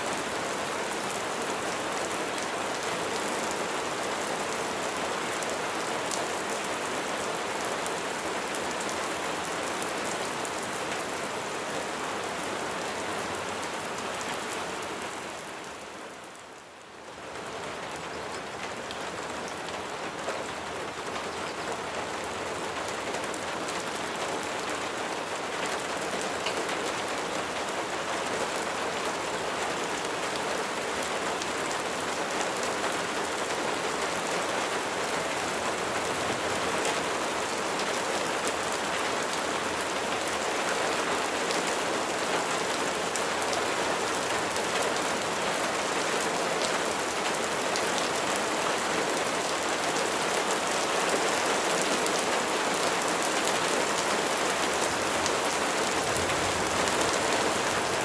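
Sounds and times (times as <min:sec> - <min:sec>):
rain falling on surfaces: 0:00.0 - 0:58.0.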